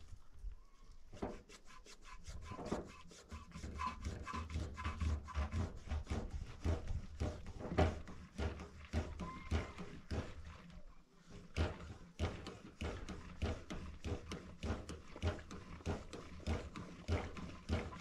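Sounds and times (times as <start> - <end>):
hand pump strokes: 1.2 - 18.0.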